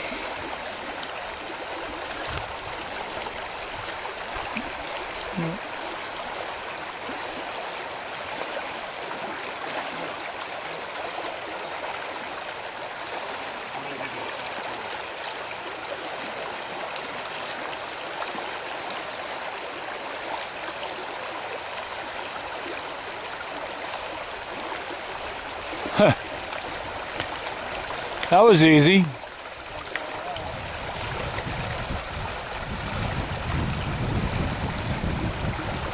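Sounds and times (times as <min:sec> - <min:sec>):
stream rushing over rocks: 0:00.0 - 0:35.9.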